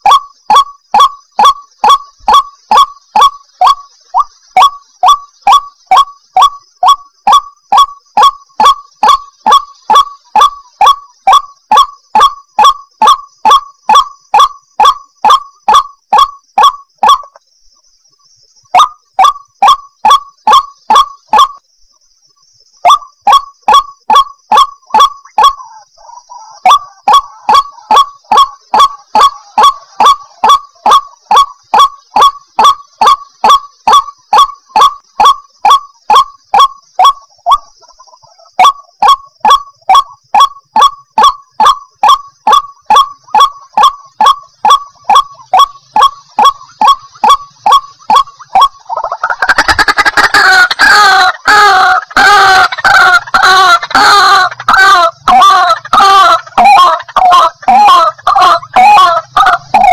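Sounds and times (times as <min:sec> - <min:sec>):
waterhen calling: 0:00.0 - 0:17.4, 0:18.7 - 0:21.6, 0:22.8 - 0:59.9.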